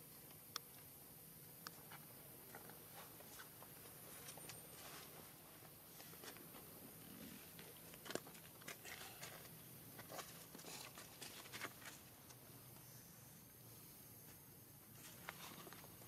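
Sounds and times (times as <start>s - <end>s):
faint clicks and rustles: 0.0s - 12.9s, 14.2s - 16.0s.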